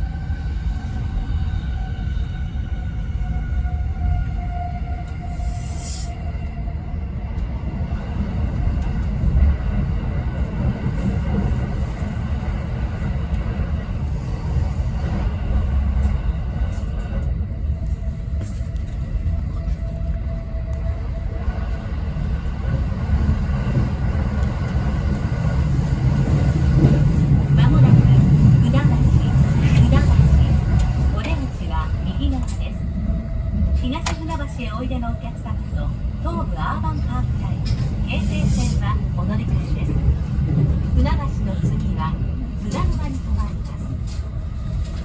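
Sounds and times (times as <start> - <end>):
train wheels rumbling on track: 0.0 - 45.0.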